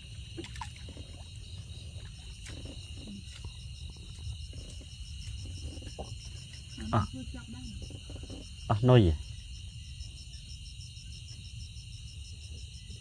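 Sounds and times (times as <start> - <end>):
crickets trilling: 0.0 - 13.0
pulsing insect chirp: 0.0 - 13.0.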